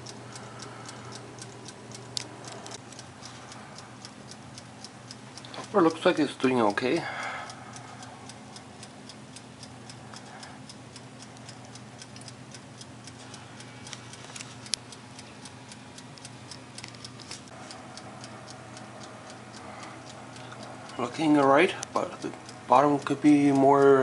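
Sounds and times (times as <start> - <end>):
mechanical timer ticking: 0.0 - 24.0.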